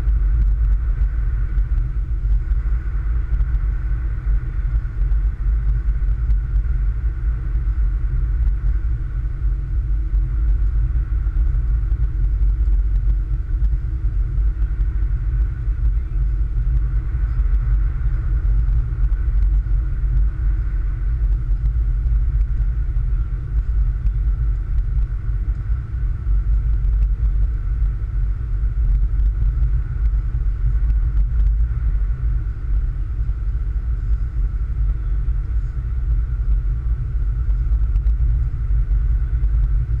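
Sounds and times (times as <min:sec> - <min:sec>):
car engine and tyres rumbling: 0:00.0 - 0:40.0
faint steady hum: 0:00.0 - 0:40.0.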